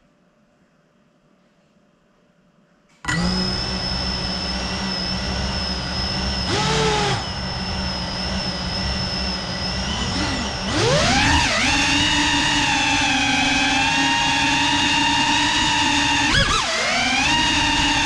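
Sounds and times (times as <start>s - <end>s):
drone motors whining: 3.1s - 18.0s.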